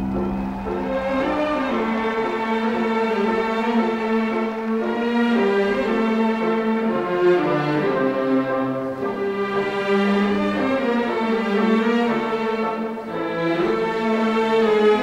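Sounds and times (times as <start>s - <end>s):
orchestral strings holding notes: 0.0s - 15.0s.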